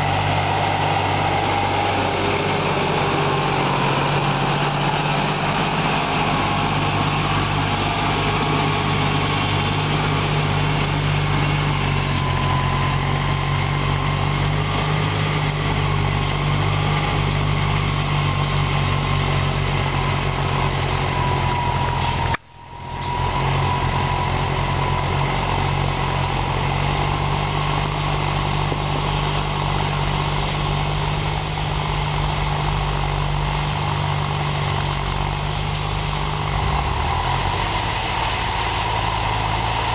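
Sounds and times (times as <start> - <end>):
diesel tractor engine under load: 0.0 - 39.9
thin whine: 0.0 - 39.9.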